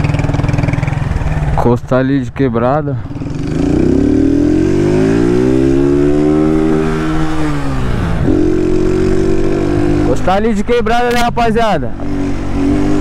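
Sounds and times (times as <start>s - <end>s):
motorcycle engine accelerating: 0.0s - 1.9s, 2.9s - 11.2s, 11.9s - 13.0s.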